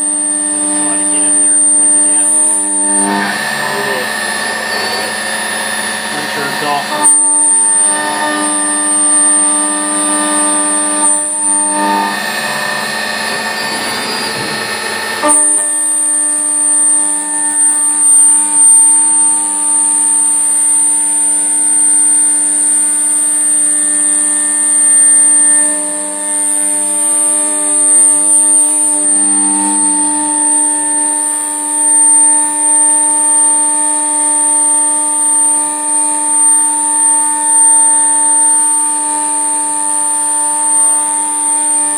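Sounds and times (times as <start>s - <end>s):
milling machine whine: 0.0s - 41.9s.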